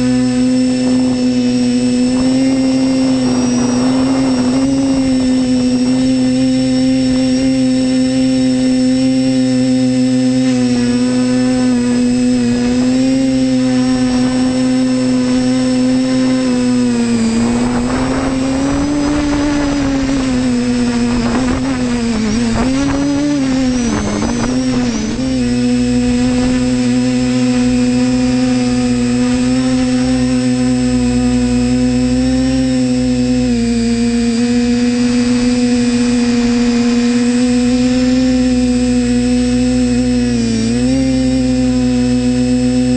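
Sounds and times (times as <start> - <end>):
drone propellers humming: 0.0 - 42.9.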